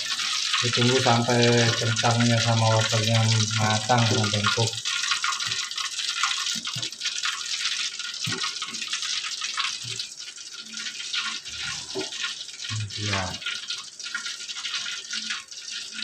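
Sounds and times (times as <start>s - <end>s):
ladle stirring liquid: 0.0s - 16.0s.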